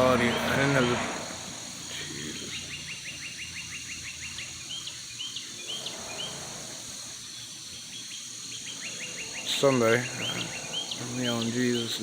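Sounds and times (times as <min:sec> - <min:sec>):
bird chips and chirps: 0:00.0 - 0:12.0
steady high hiss: 0:00.0 - 0:12.0.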